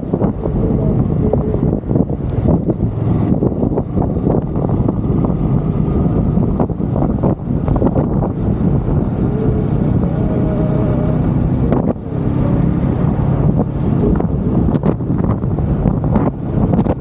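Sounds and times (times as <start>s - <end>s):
engine and road rumble: 0.0s - 17.0s
wind buffeting microphone: 0.0s - 17.0s.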